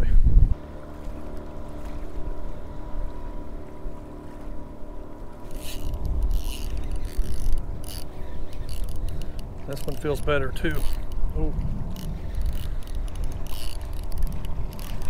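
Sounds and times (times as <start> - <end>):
wind buffeting microphone: 0.0 - 15.0
fishing reel whirring: 0.6 - 15.0.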